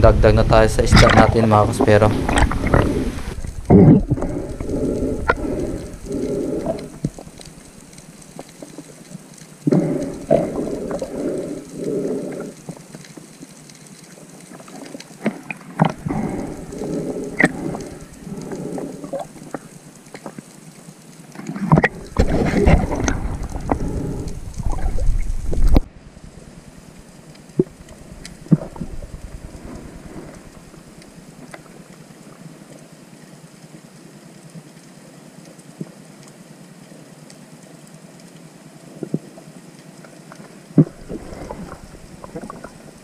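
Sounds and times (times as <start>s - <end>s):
muffled underwater water movement: 0.0s - 43.0s.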